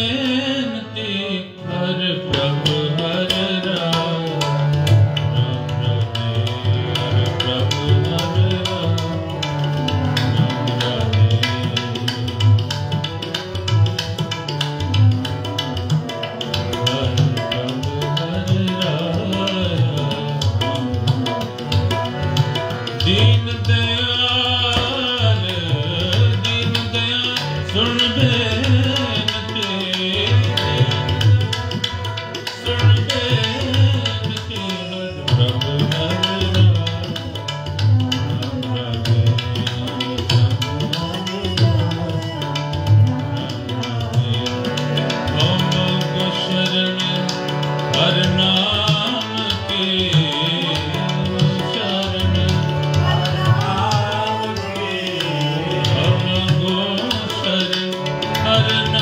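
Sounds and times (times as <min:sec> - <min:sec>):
harmonium chords: 0:00.0 - 0:59.0
tabla rhythm: 0:00.0 - 0:59.0.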